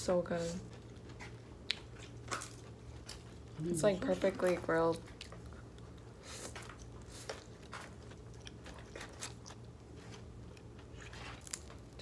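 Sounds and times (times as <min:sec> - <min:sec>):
faint low hum: 0:00.0 - 0:12.0
person chewing noodles: 0:00.6 - 0:03.6, 0:05.0 - 0:12.0.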